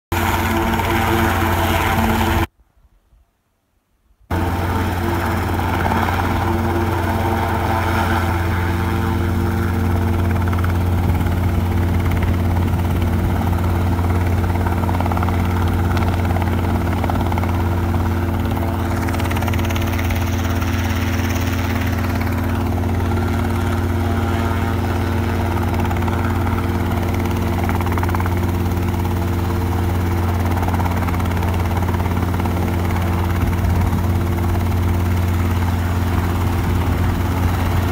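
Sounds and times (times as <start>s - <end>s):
helicopter hovering: 0.1s - 2.5s, 4.3s - 37.9s.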